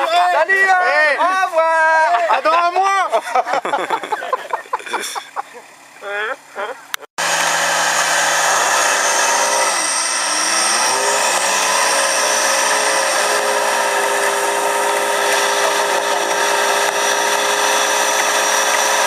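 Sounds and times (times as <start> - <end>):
off-road vehicle engine whining: 0.0 - 19.0.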